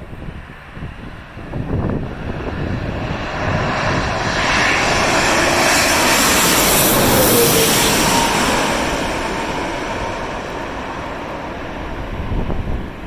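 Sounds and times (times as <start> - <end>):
jet airliner passing overhead: 0.0 - 13.0
wind buffeting microphone: 0.0 - 13.0.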